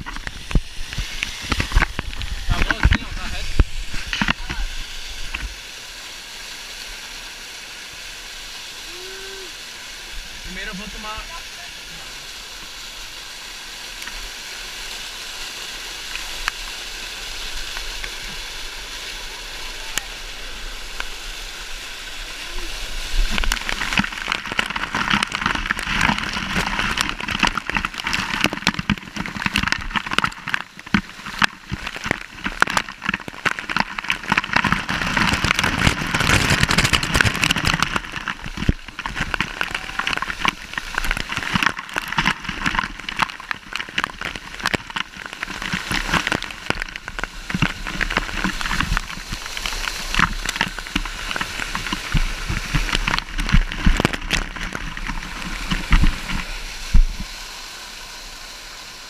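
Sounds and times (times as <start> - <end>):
waterfall splashing onto rock: 0.0 - 59.0.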